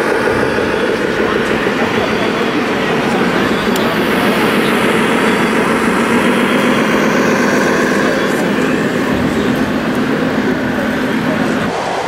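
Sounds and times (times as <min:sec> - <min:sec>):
model truck diesel engine hum: 0:00.0 - 0:11.7
murmur of crowd in hall: 0:00.0 - 0:12.0.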